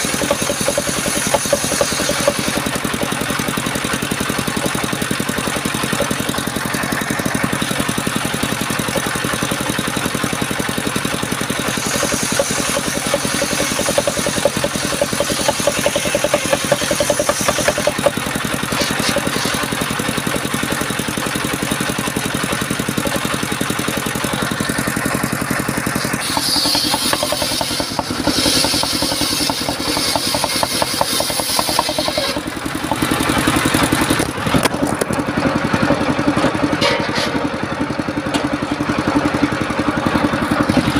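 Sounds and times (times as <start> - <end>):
saw blade cutting timber: 0.0 - 24.8, 25.4 - 35.2, 36.6 - 37.6
sawmill engine running: 0.0 - 40.9.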